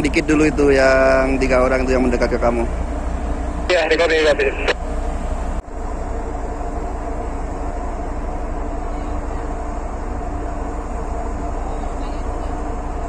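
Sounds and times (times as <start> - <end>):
ship machinery droning: 0.0 - 13.0.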